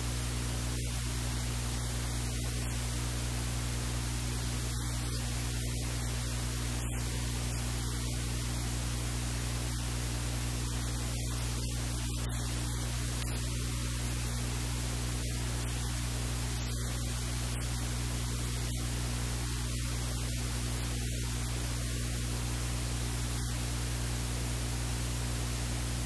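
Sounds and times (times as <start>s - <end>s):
low hum: 0.0s - 21.3s
electrical hiss: 0.0s - 26.0s.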